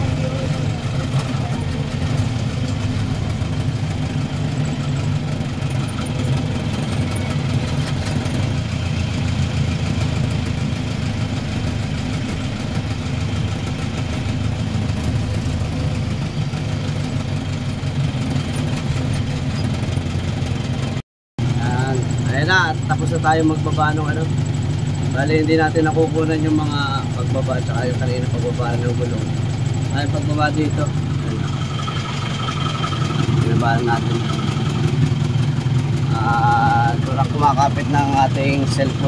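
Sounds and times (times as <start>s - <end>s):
van engine running: 0.0s - 39.0s.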